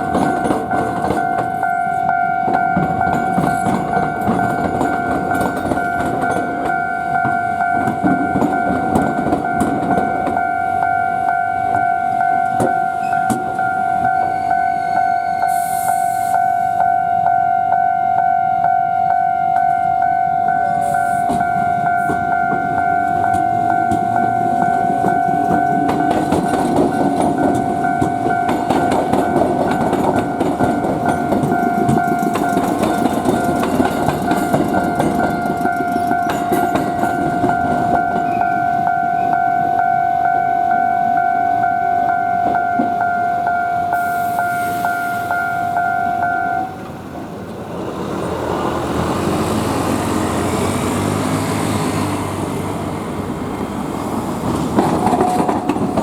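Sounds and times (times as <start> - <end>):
train wheels clattering on rails: 0.0 - 16.5, 20.5 - 40.0, 41.2 - 56.0
level crossing alarm ringing: 0.0 - 47.0.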